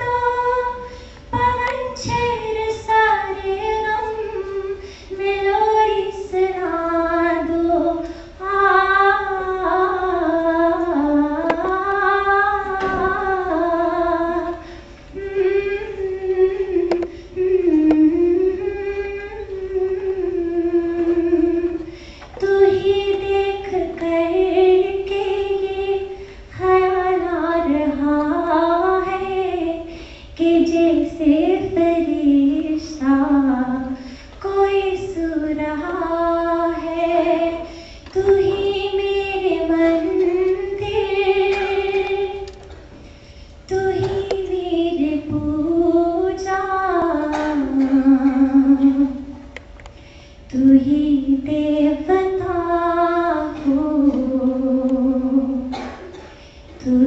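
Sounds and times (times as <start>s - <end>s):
woman singing into microphone: 0.0s - 42.8s, 43.7s - 49.4s, 50.5s - 57.0s.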